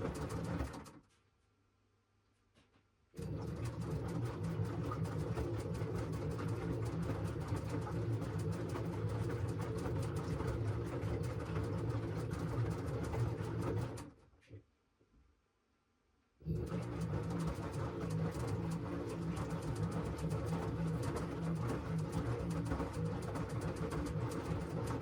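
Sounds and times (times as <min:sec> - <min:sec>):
washing machine drum churning: 0:00.0 - 0:00.9, 0:03.2 - 0:14.0, 0:16.5 - 0:25.0.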